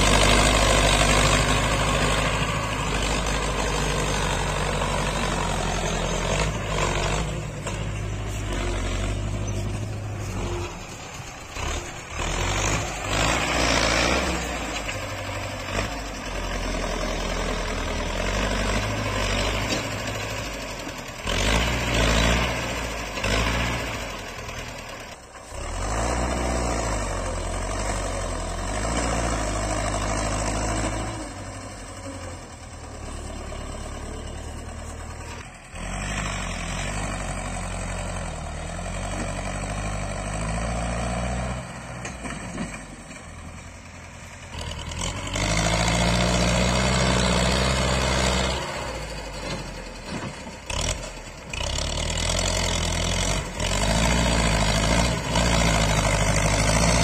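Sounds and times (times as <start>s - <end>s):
tractor diesel engine labouring: 0.0s - 57.0s.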